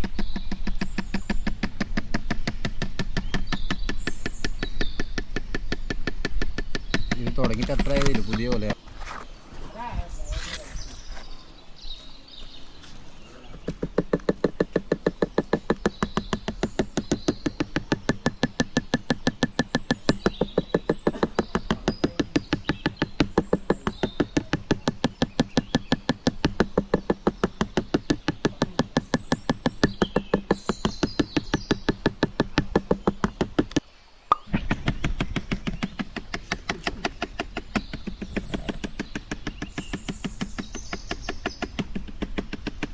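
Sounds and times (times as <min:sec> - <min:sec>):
wooden mallet knocking: 0:00.0 - 0:08.8, 0:13.6 - 0:42.9.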